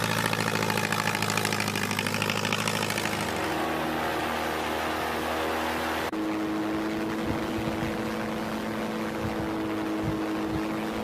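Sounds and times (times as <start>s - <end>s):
low hum: 0.0s - 11.0s
propeller aircraft engine droning: 0.0s - 11.0s.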